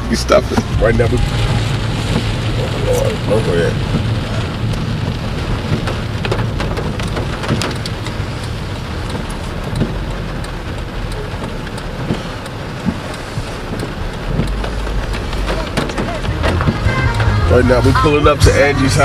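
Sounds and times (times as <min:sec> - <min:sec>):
low road rumble: 0:00.0 - 0:19.0
rain pattering on car roof: 0:00.0 - 0:19.0.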